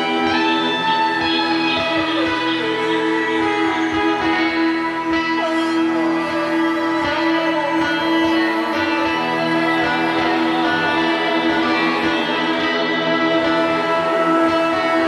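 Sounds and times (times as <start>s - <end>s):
psychedelic rock drone: 0.0s - 15.0s.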